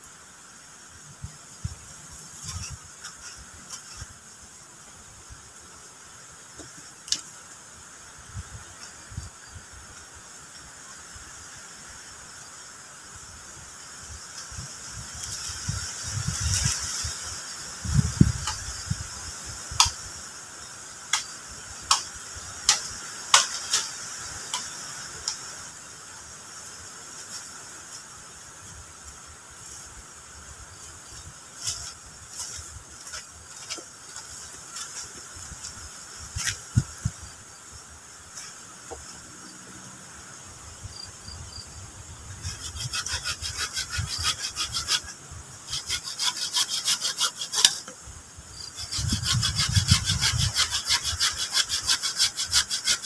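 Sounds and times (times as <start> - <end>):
insects hissing: 0.0 - 53.0.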